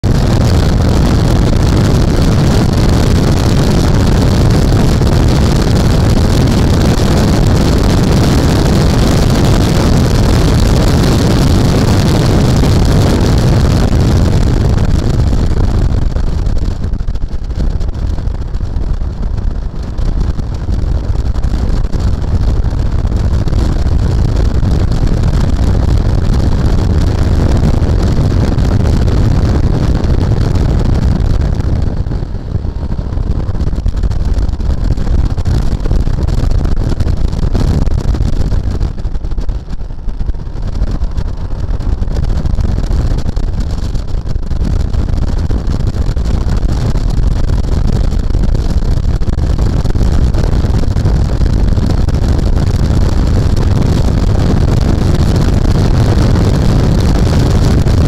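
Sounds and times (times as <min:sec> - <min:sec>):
car engine running hard: 0:00.0 - 0:54.8
wind rush over microphone: 0:00.0 - 0:58.0.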